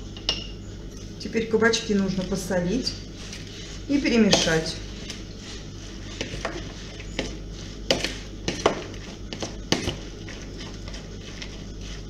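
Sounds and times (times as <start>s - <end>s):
low steady hum: 0.0s - 12.0s
zucchini stirred in a bowl: 1.8s - 12.0s.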